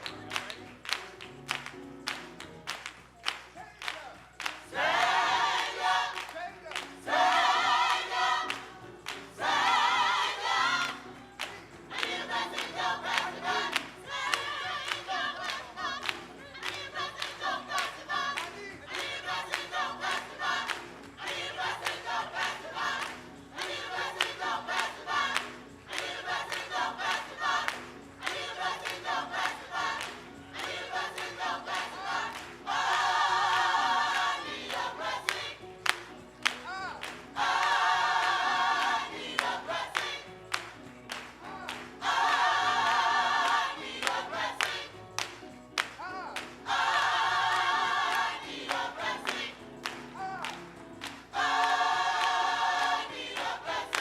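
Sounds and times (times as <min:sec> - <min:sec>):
gospel choir singing: 0:00.0 - 0:02.2, 0:04.4 - 0:54.0.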